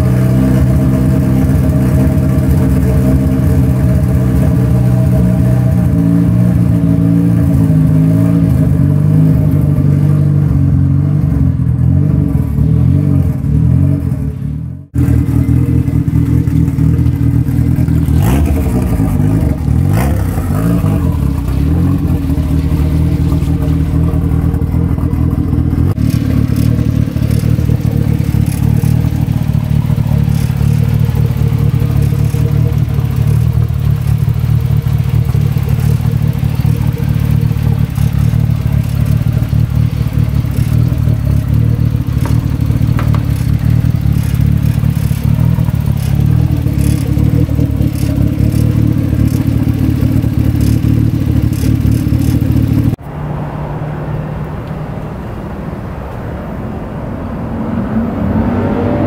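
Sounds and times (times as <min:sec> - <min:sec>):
car engine idling: 0:00.0 - 0:58.2.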